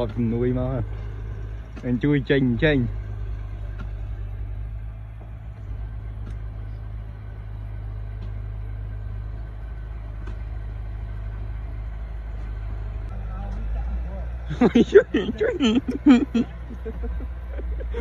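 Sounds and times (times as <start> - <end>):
engine humming at low speed: 0.0 - 18.0.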